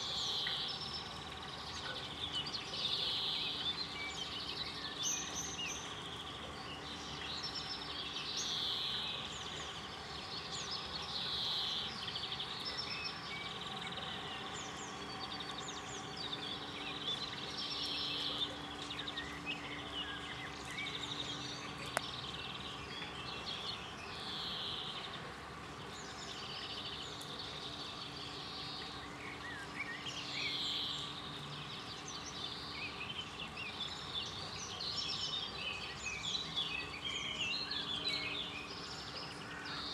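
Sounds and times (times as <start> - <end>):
faint background hum: 0.0 - 39.9
songbirds twittering: 0.0 - 39.9.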